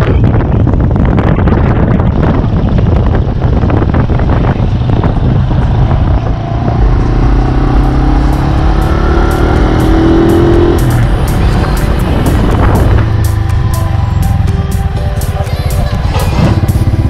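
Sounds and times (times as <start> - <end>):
motorcycle engine running: 0.0 - 17.0
wind noise on microphone: 0.0 - 17.0
engine accelerating: 2.3 - 17.0.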